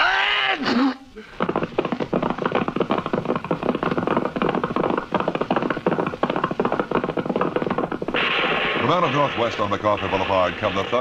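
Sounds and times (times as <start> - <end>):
galloping horse hoofbeats: 1.3 - 11.0.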